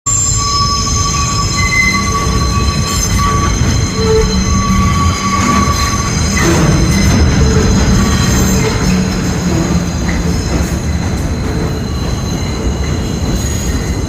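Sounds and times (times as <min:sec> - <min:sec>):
high squealing tones: 0:00.1 - 0:14.0
wheels rumbling on rails: 0:00.9 - 0:14.0.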